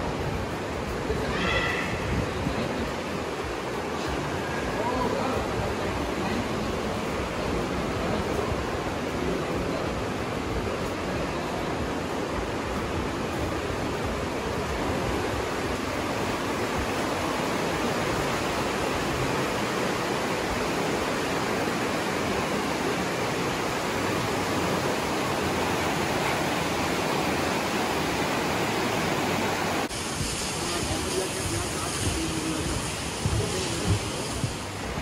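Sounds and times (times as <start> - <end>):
river whitewater rushing: 0.0 - 35.0.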